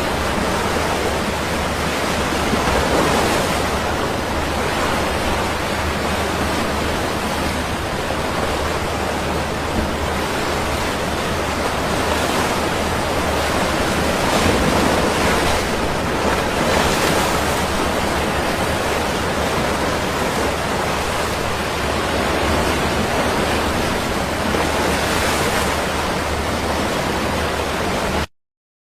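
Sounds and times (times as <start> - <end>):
sea waves washing ashore: 0.0 - 28.3.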